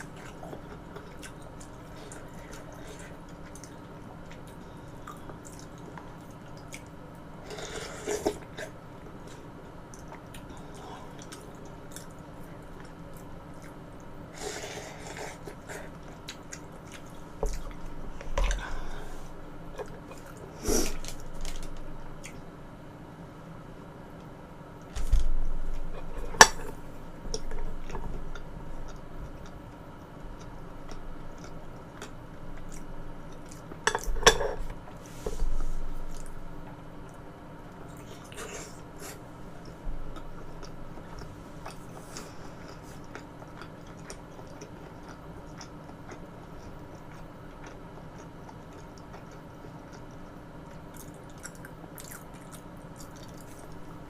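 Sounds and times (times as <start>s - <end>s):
chewing: 0.0s - 19.0s, 25.7s - 35.0s, 37.8s - 54.0s.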